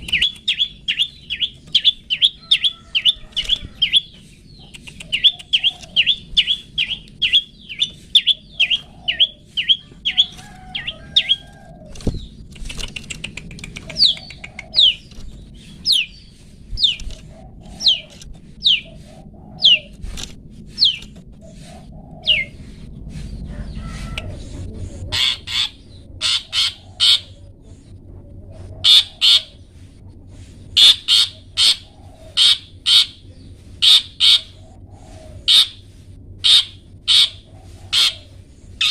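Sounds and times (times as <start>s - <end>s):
bird harsh rasping notes: 0.0s - 12.2s, 13.8s - 27.8s, 28.8s - 38.9s.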